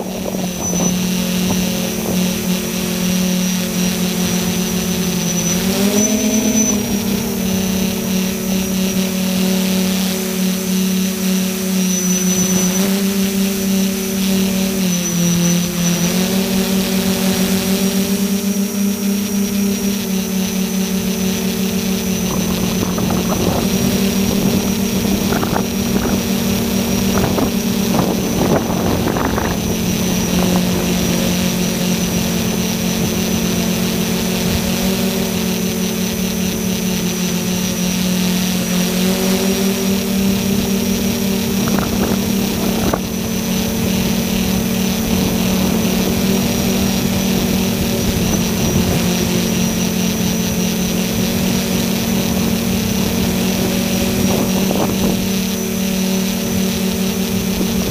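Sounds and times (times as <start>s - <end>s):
drone motors buzzing: 0.0s - 57.9s.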